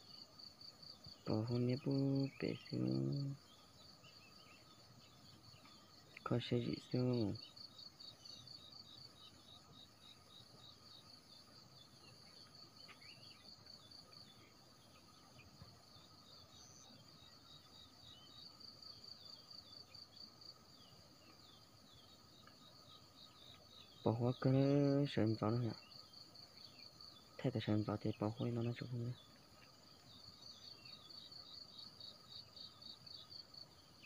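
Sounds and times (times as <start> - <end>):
insect chirping: 0.0 - 34.0.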